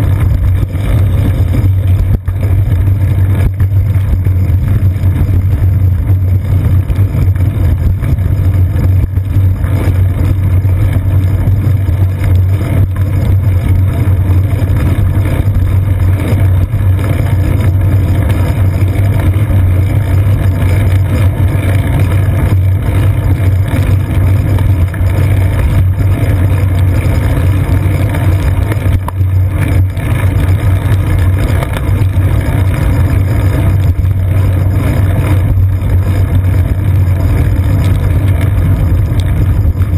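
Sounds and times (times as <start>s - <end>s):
bicycle rolling over wet pavement: 0.0s - 39.9s
wind buffeting camera: 0.0s - 39.9s.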